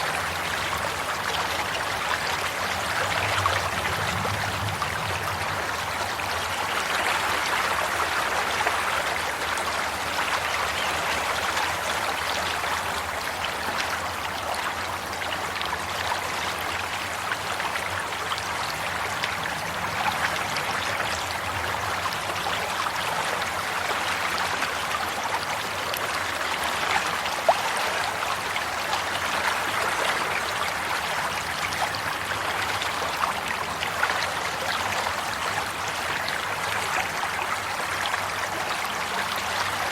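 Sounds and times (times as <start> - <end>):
stream water burbling: 0.0 - 39.9.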